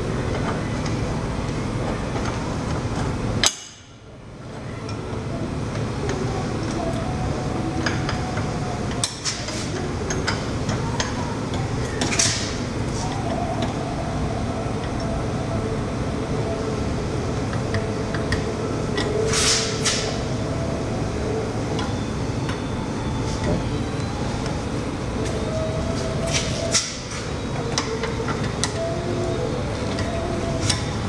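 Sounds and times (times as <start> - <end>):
workshop background hum: 0.0 - 31.0.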